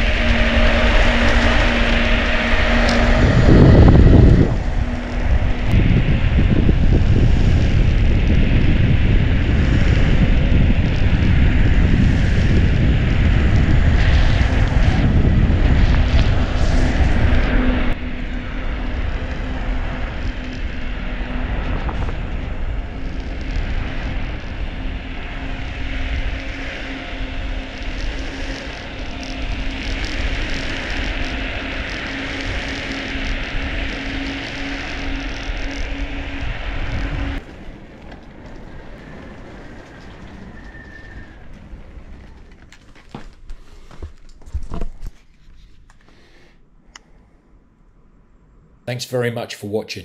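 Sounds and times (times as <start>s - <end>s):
tyres rolling on asphalt: 0.0s - 45.3s
wind rushing over microphone: 0.0s - 46.0s
steady low hum: 0.0s - 49.0s.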